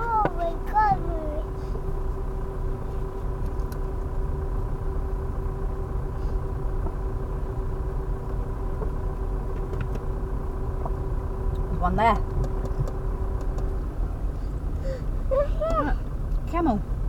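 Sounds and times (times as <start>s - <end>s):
car engine and road rumble: 0.0s - 17.0s
constant low hum: 0.0s - 17.0s.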